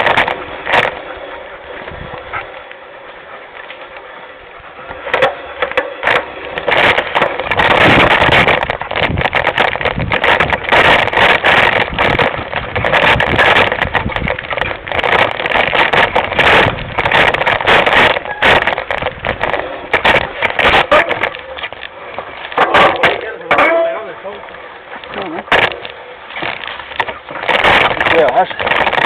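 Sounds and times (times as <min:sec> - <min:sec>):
mountain bike rattling over bumps: 0:00.0 - 0:29.0.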